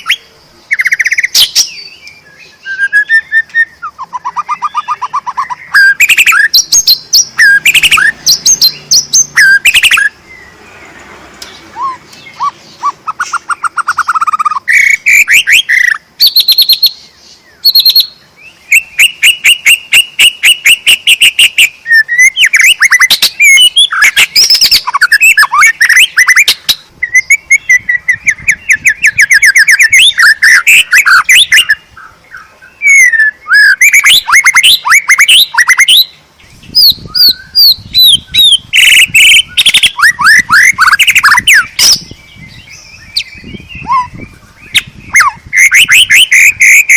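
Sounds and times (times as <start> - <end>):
songbird singing trills and whistles: 0.0 - 46.9.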